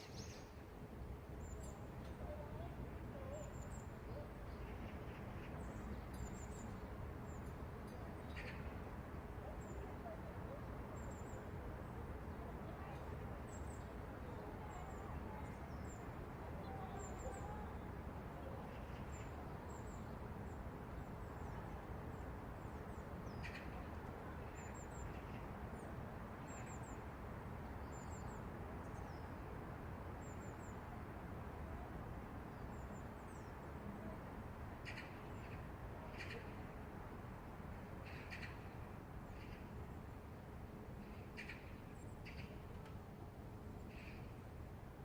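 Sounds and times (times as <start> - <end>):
distant city traffic hum: 0.0 - 45.0.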